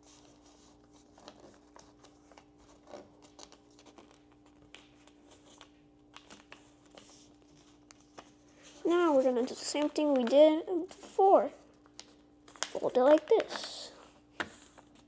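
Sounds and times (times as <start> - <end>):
paper rustling and crackling: 0.0 - 15.0.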